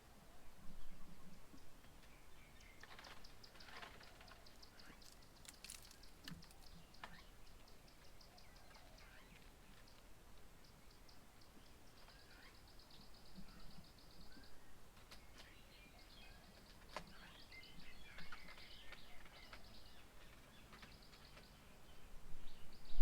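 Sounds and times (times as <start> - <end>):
small birds chirping: 0.4 - 23.0.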